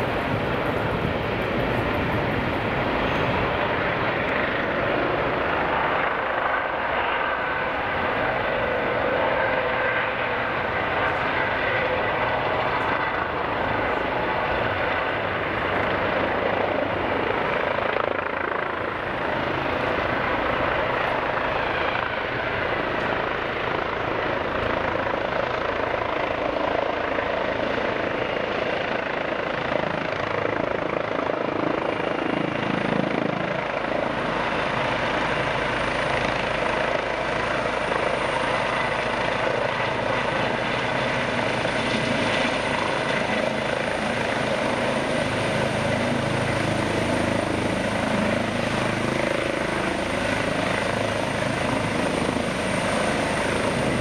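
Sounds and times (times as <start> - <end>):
helicopter rotor and turbines: 0.0 - 54.0
high turbine whine: 0.0 - 54.0.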